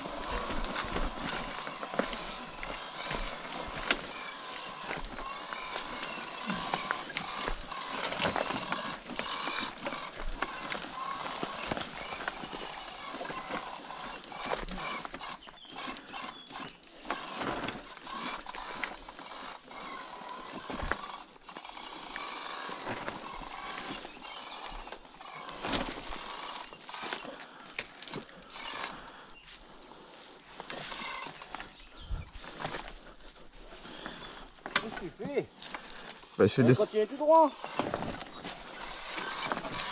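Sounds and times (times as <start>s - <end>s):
footsteps on loose stones: 0.0s - 39.9s
tyres crunching over stones: 0.0s - 39.9s.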